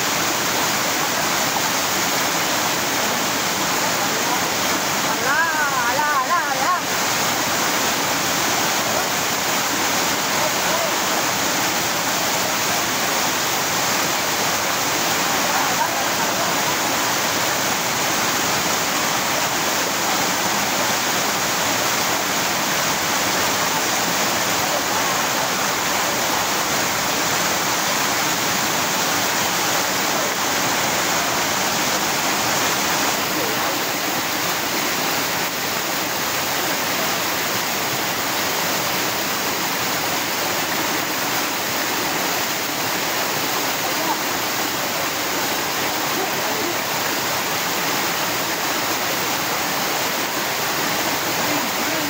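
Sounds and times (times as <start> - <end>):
waterfall cascading over rocks: 0.0 - 52.0.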